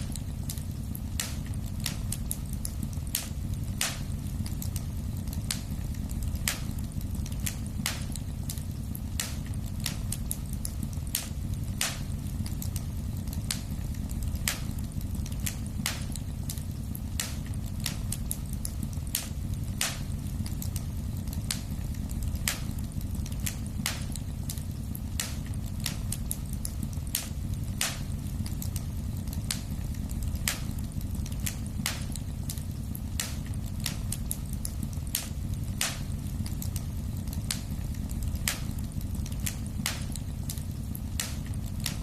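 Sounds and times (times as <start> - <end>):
low rumble of flames: 0.0 - 42.0
wood fire crackling: 0.0 - 42.0.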